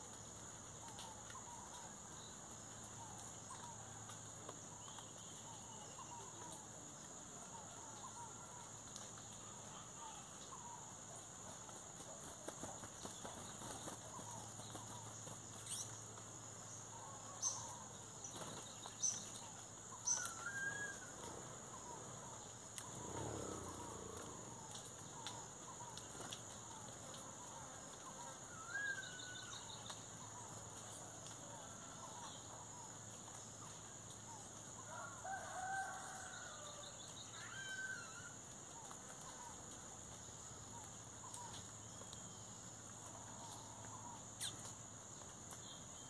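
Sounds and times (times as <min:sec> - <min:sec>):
wild birds chirping: 0:00.6 - 0:46.0.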